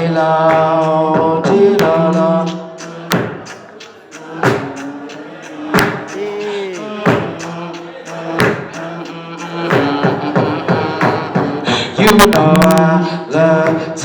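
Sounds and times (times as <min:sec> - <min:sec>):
vocal kick-drum hits: 0:00.0 - 0:13.0, 0:13.6 - 0:14.0
falling vocal slide: 0:00.0 - 0:13.4
vocal clicks: 0:00.4 - 0:13.2.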